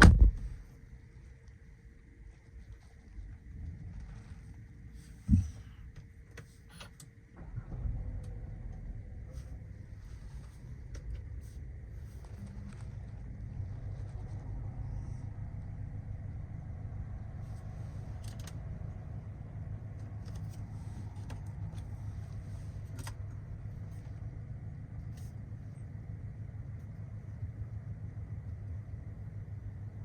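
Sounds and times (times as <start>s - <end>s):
car engine droning: 2.6s - 30.0s.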